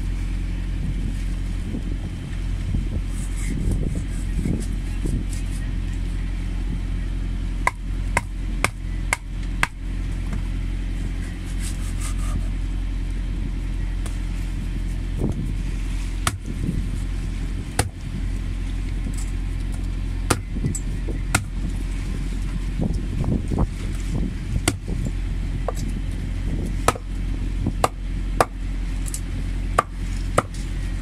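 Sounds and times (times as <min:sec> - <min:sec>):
low engine drone: 0:00.0 - 0:31.0.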